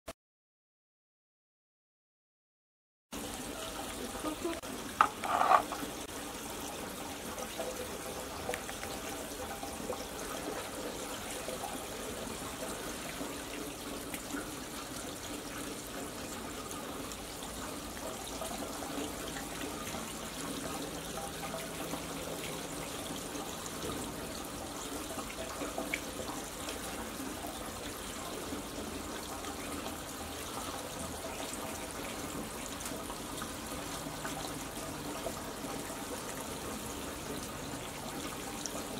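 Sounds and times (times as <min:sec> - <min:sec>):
running water trickling: 0:03.2 - 0:38.9.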